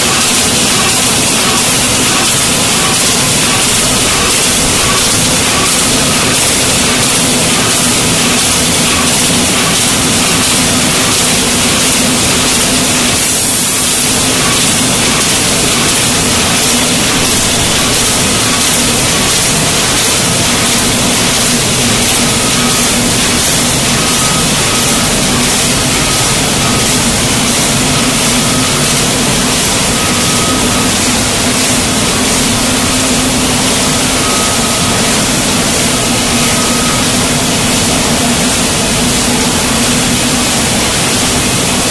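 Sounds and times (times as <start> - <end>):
machine noise with low hum: 0.0 - 41.9.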